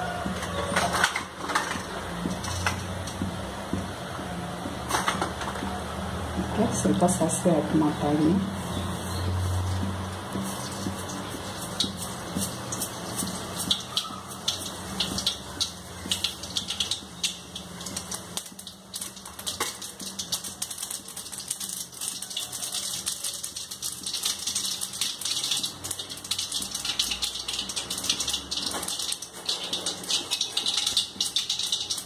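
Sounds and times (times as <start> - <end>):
mustard seeds popping in hot oil: 0.0 - 32.0.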